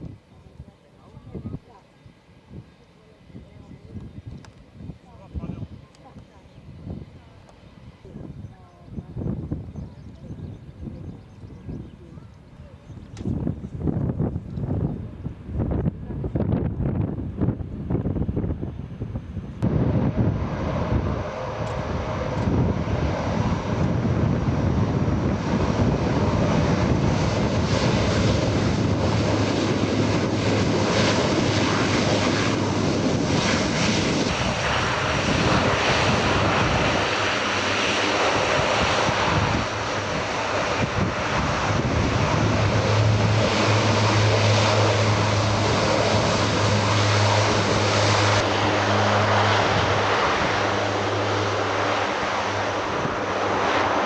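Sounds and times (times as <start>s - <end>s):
aircraft engines humming: 0.0s - 54.0s.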